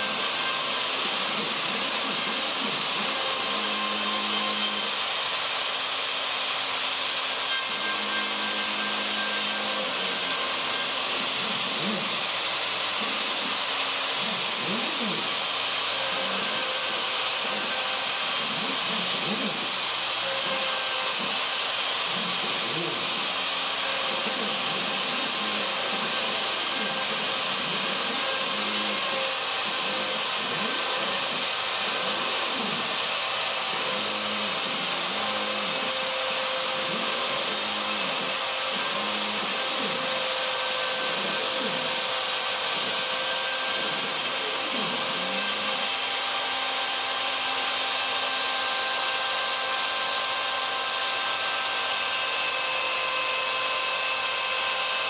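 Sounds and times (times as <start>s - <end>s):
router whining: 0.0s - 55.0s.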